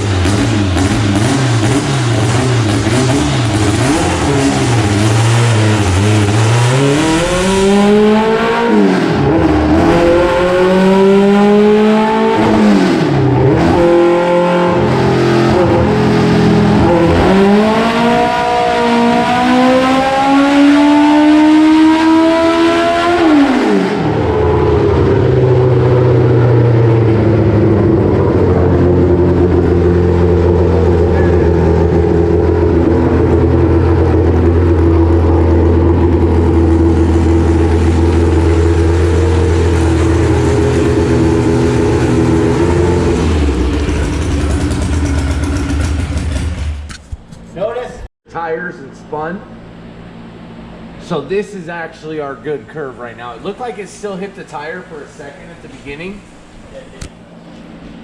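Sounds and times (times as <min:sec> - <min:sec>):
car engine revving: 0:00.0 - 0:47.4.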